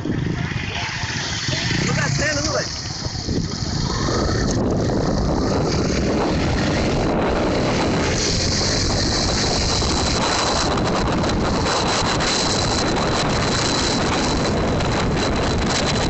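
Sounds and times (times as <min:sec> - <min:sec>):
motorcycle engine: 0:00.0 - 0:16.0
wind roaring over microphone: 0:00.0 - 0:16.0.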